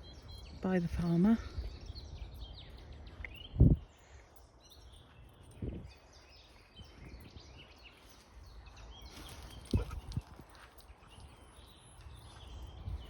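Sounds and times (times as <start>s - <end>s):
birds singing and chirping: 0.0s - 13.0s.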